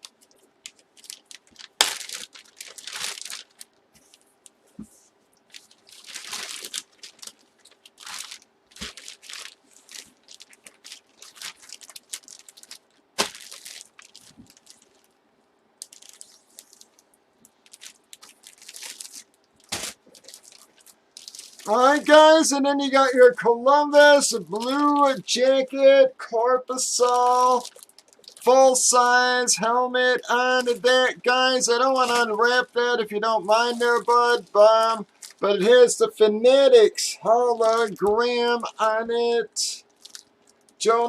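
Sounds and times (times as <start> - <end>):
plastic packaging crinkling: 0.0 - 15.2, 15.8 - 23.4, 24.0 - 25.5, 26.7 - 29.5, 30.1 - 35.7, 37.5 - 38.8, 39.8 - 41.0.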